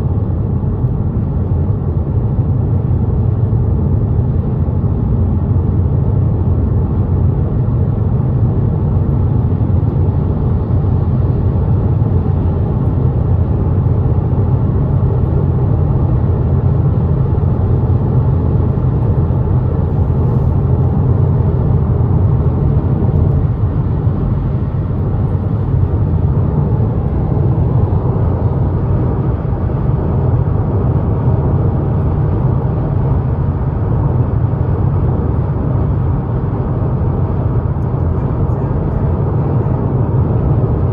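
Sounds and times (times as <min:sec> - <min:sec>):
road and tyre noise: 0:00.0 - 0:40.9.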